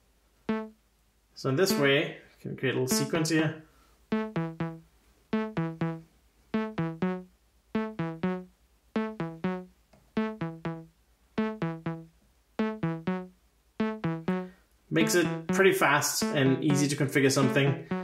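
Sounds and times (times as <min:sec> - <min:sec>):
synthesizer plucked notes: 0:00.5 - 0:00.8, 0:01.6 - 0:02.1, 0:02.9 - 0:18.0.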